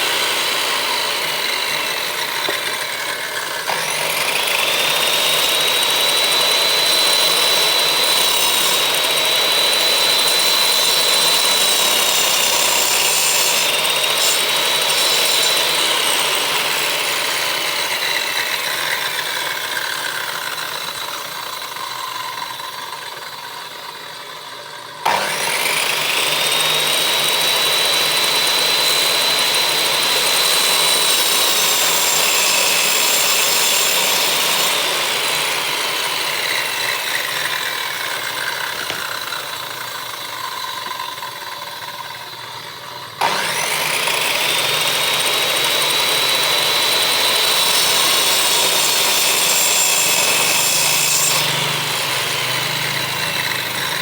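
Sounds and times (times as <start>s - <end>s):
electric power tool whine: 0.0s - 54.0s.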